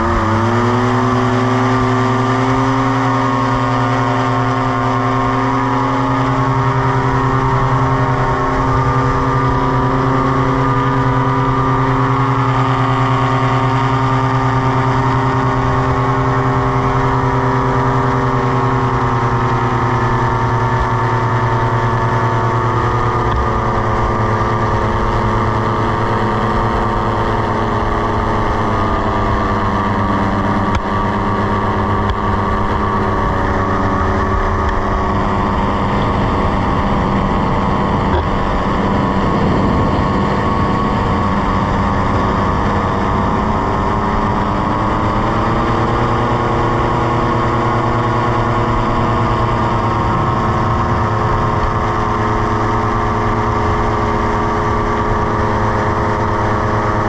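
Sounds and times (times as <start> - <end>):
engine and propeller drone: 0.0 - 57.0.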